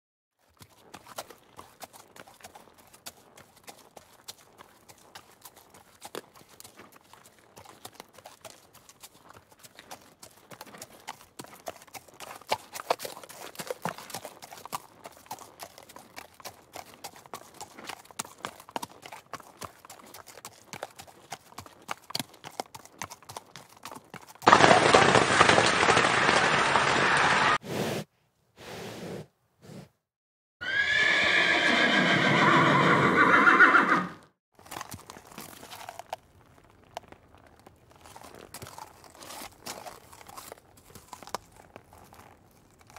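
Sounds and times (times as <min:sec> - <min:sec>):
horse hooves clip-clopping: 0:00.4 - 0:27.6, 0:34.6 - 0:42.9.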